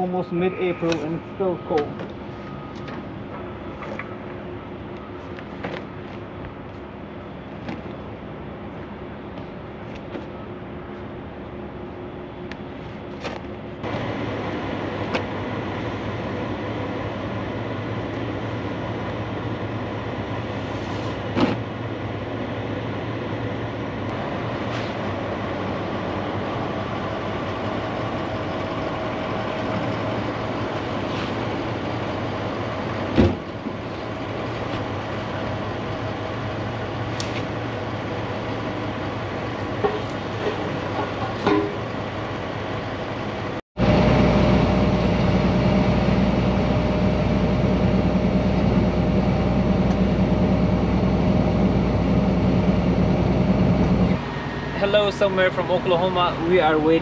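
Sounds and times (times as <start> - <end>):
low mechanical drone: 0.0 - 57.0
truck driving on highway: 0.0 - 57.0.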